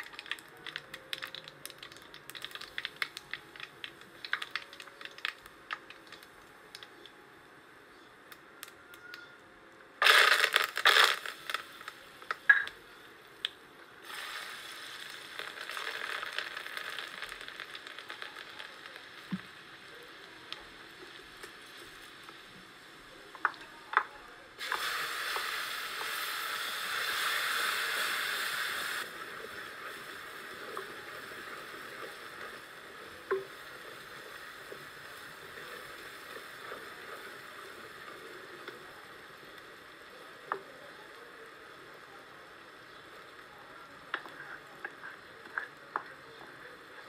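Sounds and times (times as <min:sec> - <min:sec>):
hot oil sizzling in a pot: 0:00.0 - 0:07.1, 0:10.0 - 0:47.0.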